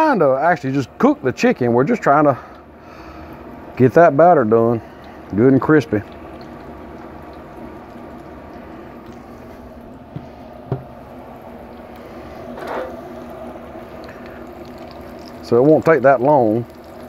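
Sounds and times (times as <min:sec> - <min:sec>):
oil sizzling and bubbling: 0:00.0 - 0:17.0.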